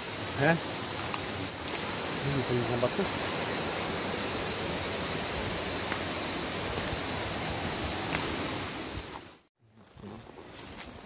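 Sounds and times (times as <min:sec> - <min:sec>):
mountain stream rushing: 0:00.0 - 0:09.4.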